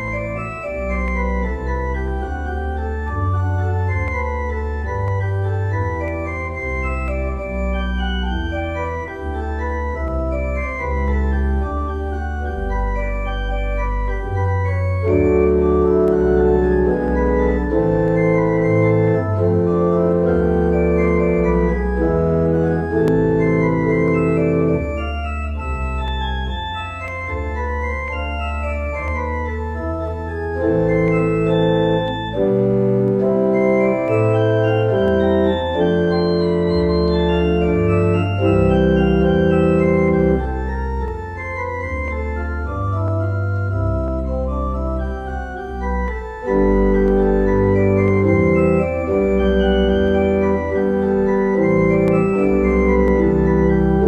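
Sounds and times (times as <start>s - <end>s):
organ playing slow chords: 0.0s - 54.0s.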